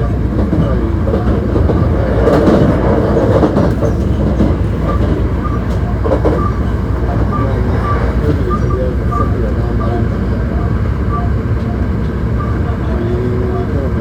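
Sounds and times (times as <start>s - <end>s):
rail-joint clatter: 0.0s - 14.0s
train wheels rumbling on rail: 0.0s - 14.0s.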